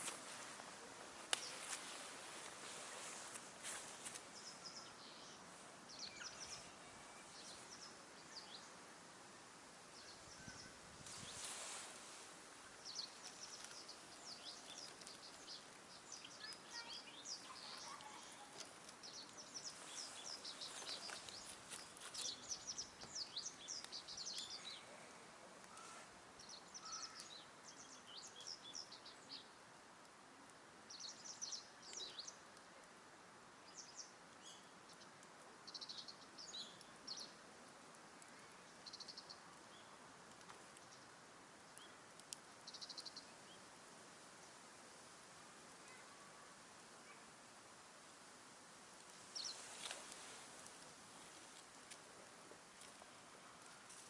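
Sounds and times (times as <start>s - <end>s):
small birds chirping: 0.0s - 9.0s, 9.8s - 54.0s
faint background hiss: 0.0s - 54.0s.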